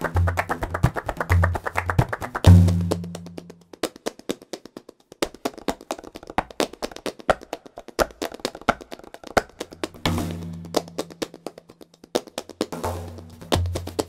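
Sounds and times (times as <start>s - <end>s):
rhythmic hand clapping: 0.0s - 14.0s.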